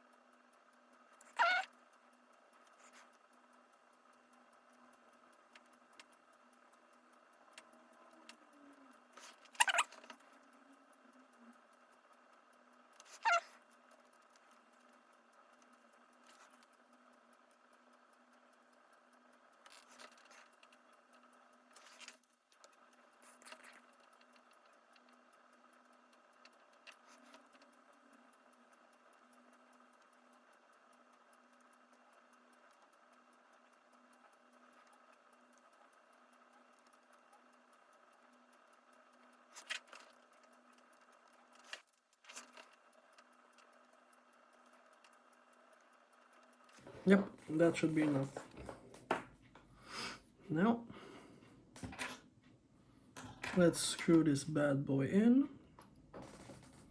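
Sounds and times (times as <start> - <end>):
faint clicks and taps: 0.0 - 49.8
faint steady hum: 0.0 - 56.9.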